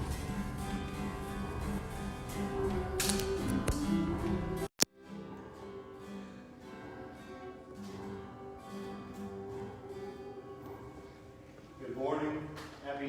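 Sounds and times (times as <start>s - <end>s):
acoustic guitar instrumental: 0.0s - 12.9s.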